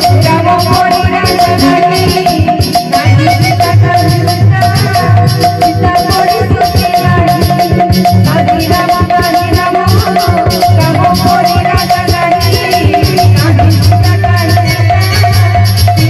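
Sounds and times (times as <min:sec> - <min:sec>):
percussion rhythm: 0:00.0 - 0:16.0.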